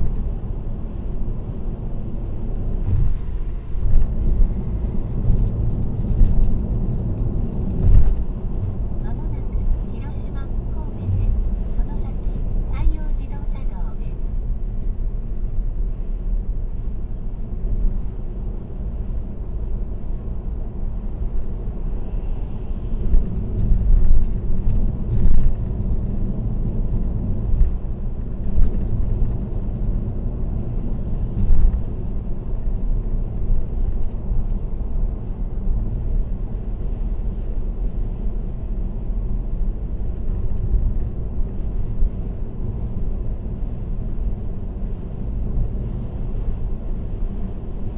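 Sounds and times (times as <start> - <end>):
car road noise rumble: 0.0 - 47.9.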